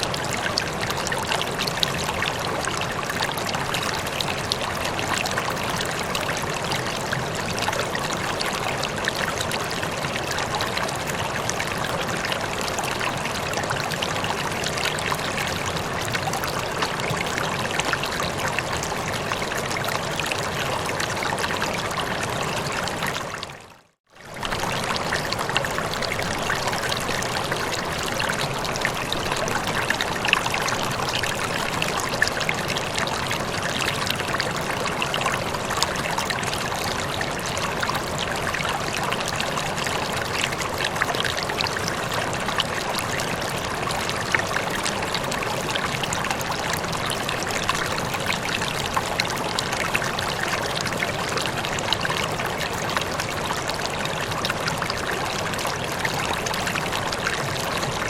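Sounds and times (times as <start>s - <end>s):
running water with splashes: 0.0s - 58.0s.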